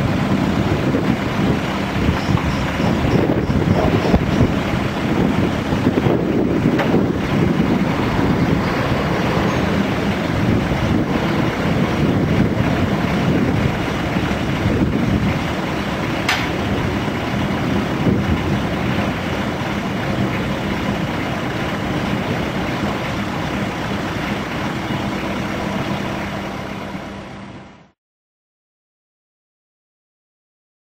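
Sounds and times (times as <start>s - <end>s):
forklift running: 0.0s - 28.0s.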